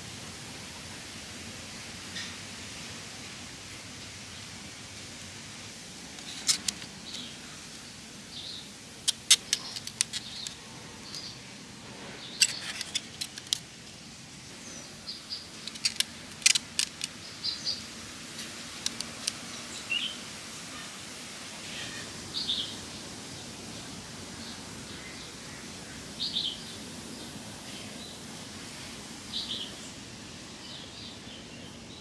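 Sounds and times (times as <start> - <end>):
steady outdoor hiss: 0.0 - 32.0.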